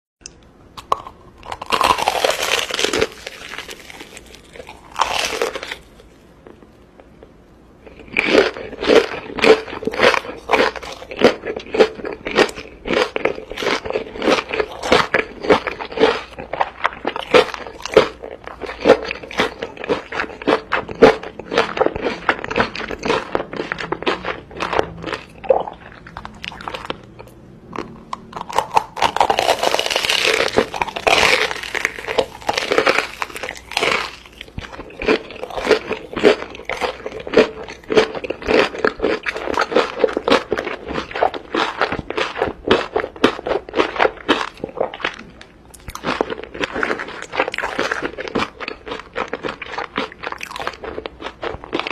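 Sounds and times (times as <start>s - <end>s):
crunchy chewing: 0.8s - 6.6s, 7.8s - 51.9s.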